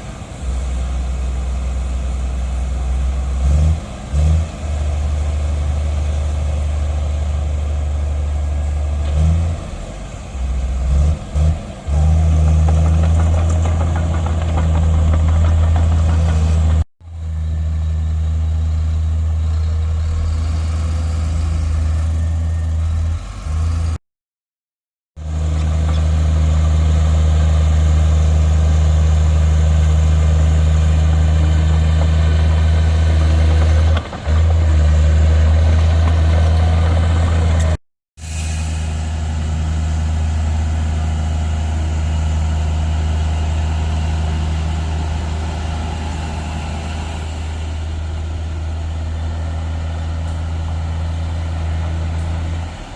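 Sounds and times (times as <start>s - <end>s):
heavy diesel engine droning: 0.0s - 24.0s, 25.2s - 52.9s.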